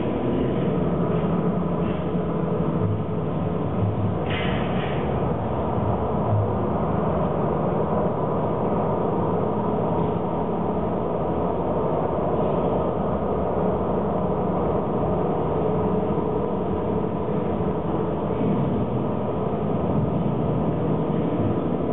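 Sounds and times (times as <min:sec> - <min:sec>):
dense rumbling drone: 0:00.0 - 0:21.9.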